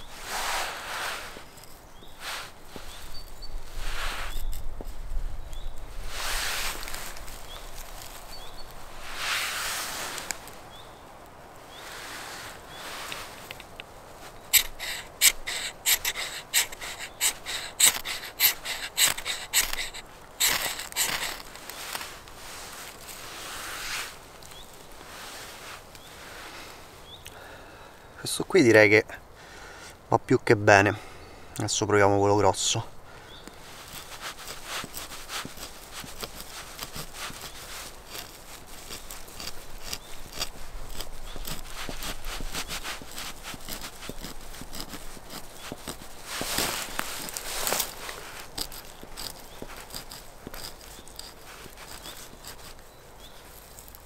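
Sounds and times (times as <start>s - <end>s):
fire steel scraping: 0.0s - 10.8s, 11.7s - 26.2s, 33.4s - 54.0s.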